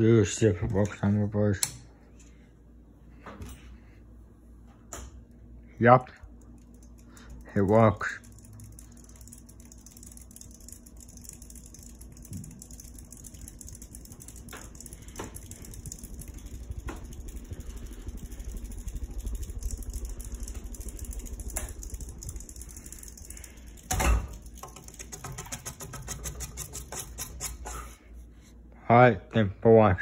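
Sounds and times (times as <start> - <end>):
ceiling fan running: 0.0 - 30.0.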